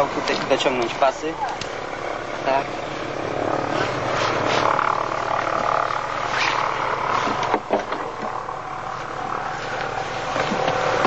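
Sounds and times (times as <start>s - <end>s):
propeller aircraft engine running: 0.0s - 11.0s.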